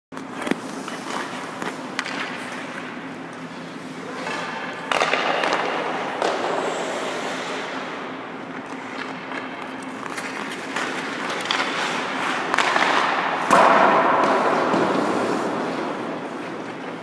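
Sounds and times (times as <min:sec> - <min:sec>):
hockey stick clicking on puck: 0:00.2 - 0:03.0, 0:04.2 - 0:07.7, 0:08.5 - 0:16.7
skate blades scraping ice: 0:00.2 - 0:13.5, 0:14.1 - 0:17.0
steady low hum: 0:00.2 - 0:17.0.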